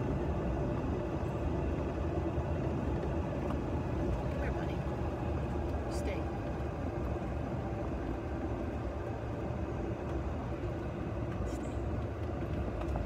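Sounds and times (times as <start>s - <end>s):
golf cart rumbling: 0.0s - 13.0s.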